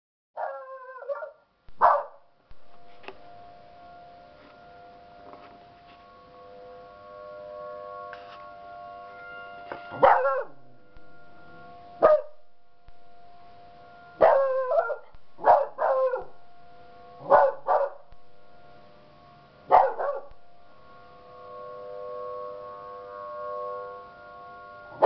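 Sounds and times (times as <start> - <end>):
tornado warning siren wailing: 0.4 - 25.0.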